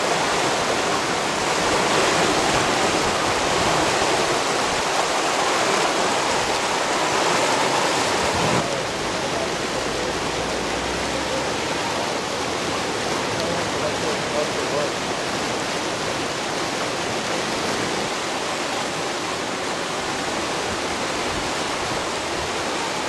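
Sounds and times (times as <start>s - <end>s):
river in flood roaring: 0.0s - 23.0s.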